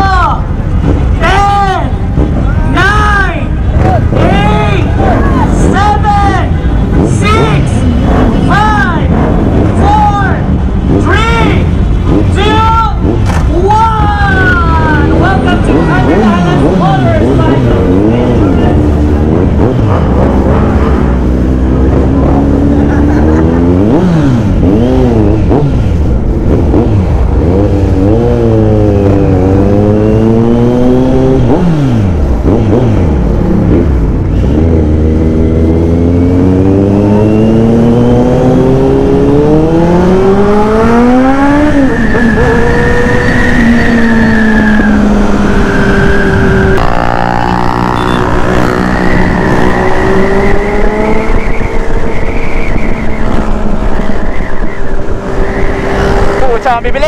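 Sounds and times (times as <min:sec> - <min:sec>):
motorcycle engine accelerating: 0:03.6 - 0:57.0.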